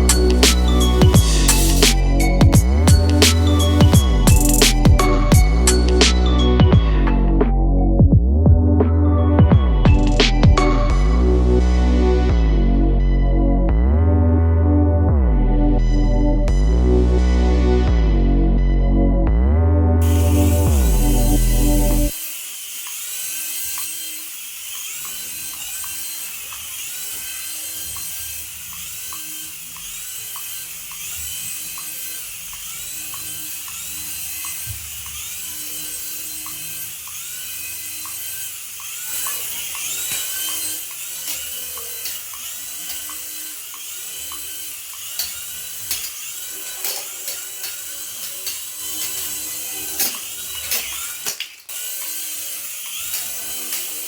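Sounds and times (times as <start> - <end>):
toy electric motor whirring: 0.0 - 7.4, 9.3 - 12.5, 20.0 - 54.0.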